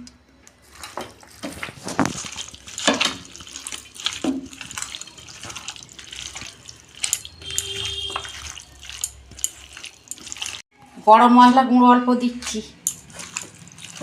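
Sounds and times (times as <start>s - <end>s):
wet squelching of hand mixing: 0.5s - 10.8s, 12.2s - 14.0s.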